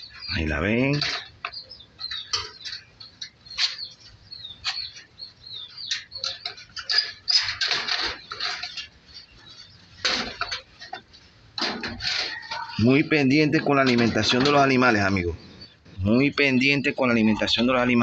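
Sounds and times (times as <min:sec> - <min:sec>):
rustling: 0:00.0 - 0:16.0
chicks peeping: 0:00.0 - 0:18.0.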